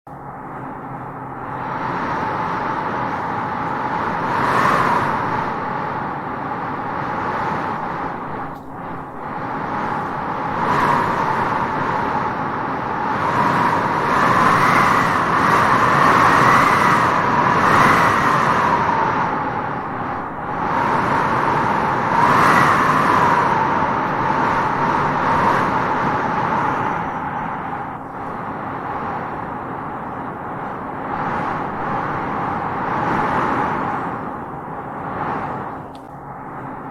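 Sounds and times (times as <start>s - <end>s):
wind gusting through grass: 0.1s - 36.9s.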